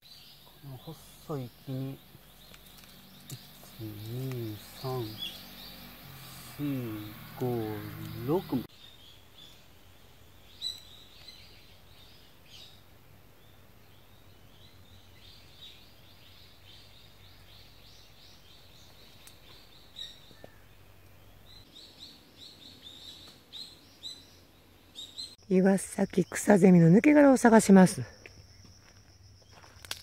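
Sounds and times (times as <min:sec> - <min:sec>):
faint bird chirps: 0:00.0 - 0:12.8, 0:13.4 - 0:27.0.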